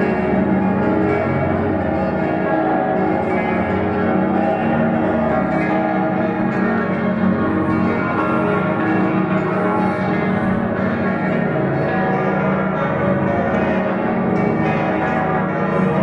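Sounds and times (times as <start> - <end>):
many church bells ringing: 0.0 - 16.0.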